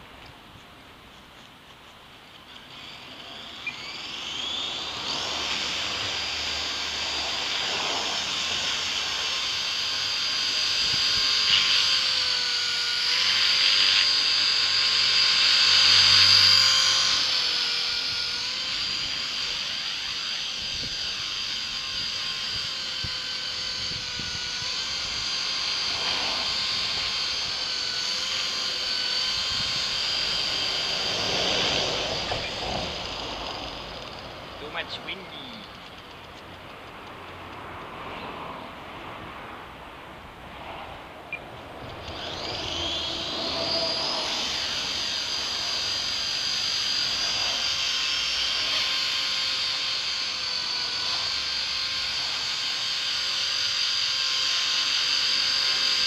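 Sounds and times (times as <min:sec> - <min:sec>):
electric helicopter motor whine: 0:00.0 - 0:56.0
rotor whoosh: 0:02.7 - 0:56.0.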